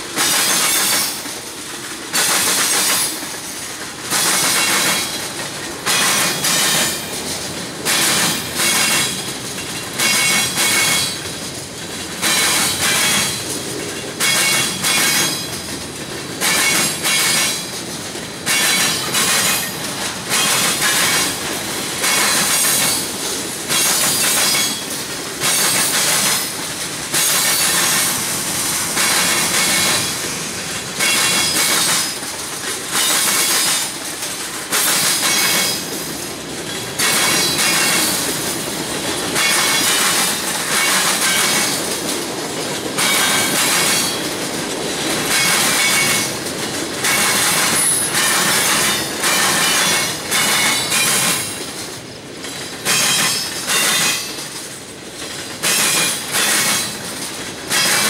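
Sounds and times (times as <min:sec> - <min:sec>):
train rolling noise: 0:00.0 - 0:58.0
train wheels clattering over crossing: 0:00.0 - 0:58.0.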